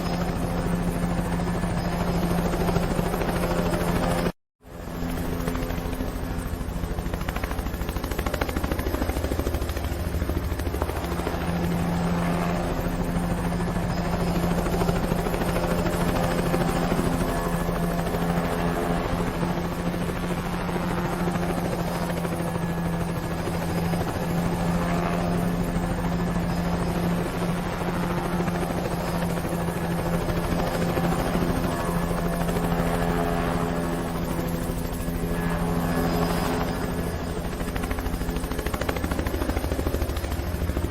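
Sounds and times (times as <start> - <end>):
helicopter rotor beat: 0.0 - 40.9.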